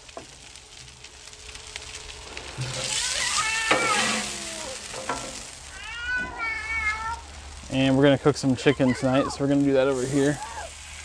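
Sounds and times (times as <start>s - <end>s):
oil sizzling on griddle: 0.0s - 11.0s.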